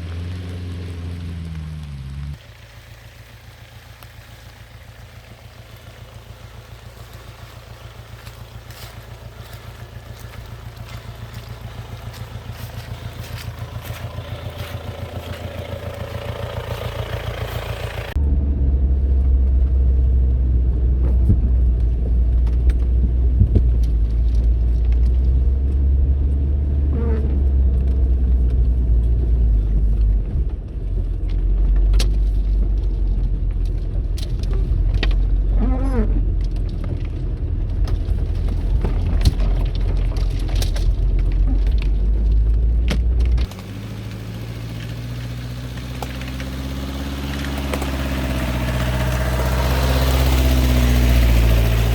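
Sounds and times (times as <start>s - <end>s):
diesel engine pulsing: 0.0s - 51.9s
engine knocks: 1.0s - 18.2s, 20.6s - 51.9s.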